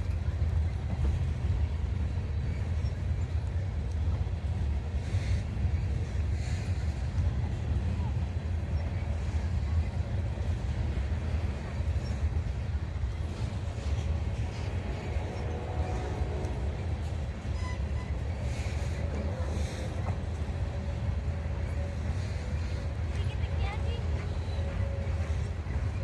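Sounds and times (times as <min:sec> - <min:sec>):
freight train wheels rumbling on rails: 0:00.0 - 0:26.0.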